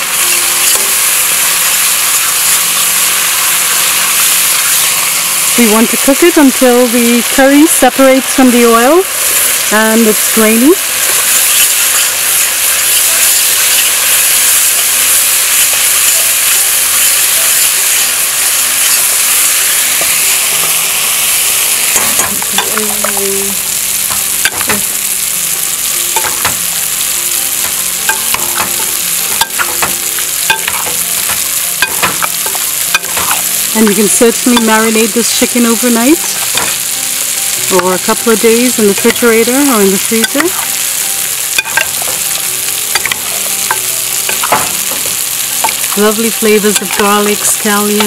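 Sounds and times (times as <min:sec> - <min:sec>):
curry paste sizzling in a pot: 0:00.0 - 0:48.0.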